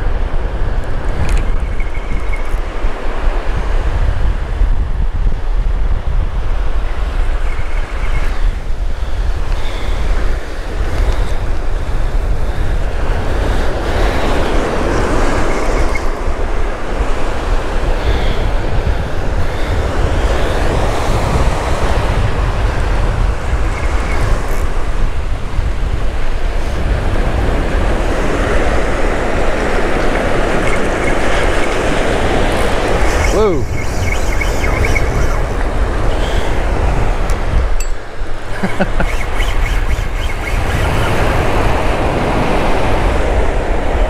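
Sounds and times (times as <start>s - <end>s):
ocean surf breaking: 0.0s - 44.0s
wind buffeting microphone: 0.0s - 44.0s.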